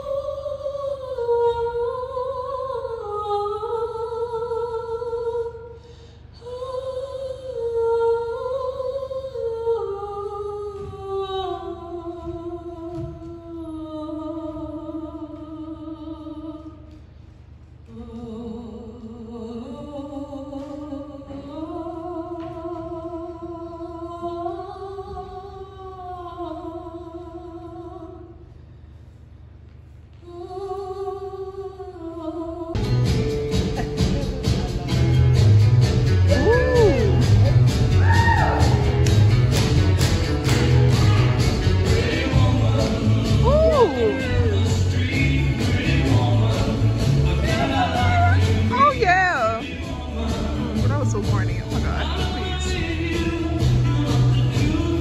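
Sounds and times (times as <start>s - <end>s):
woman singing: 0.0s - 5.7s, 6.4s - 16.8s, 17.9s - 28.3s, 30.2s - 32.9s, 36.2s - 37.5s, 40.5s - 55.0s.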